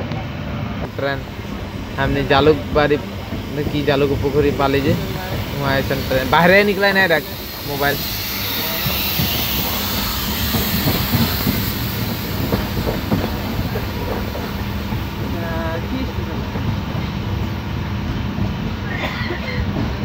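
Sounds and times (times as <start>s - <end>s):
train rumbling inside coach: 0.0s - 20.0s
train wheels clacking on rails: 0.8s - 20.0s.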